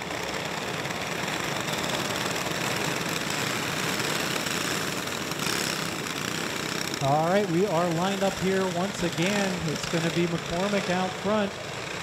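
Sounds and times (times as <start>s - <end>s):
go-kart engines rattling: 0.0s - 12.0s.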